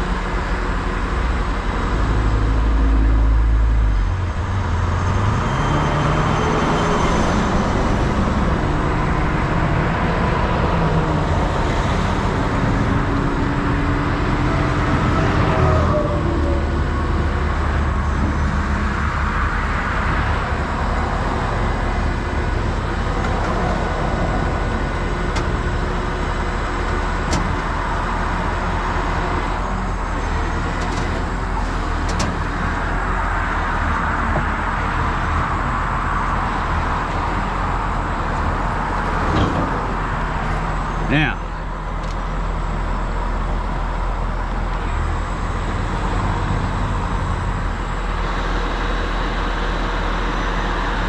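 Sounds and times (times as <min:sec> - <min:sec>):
diesel truck engine running: 0:00.0 - 0:51.0
highway traffic passing: 0:00.0 - 0:51.0.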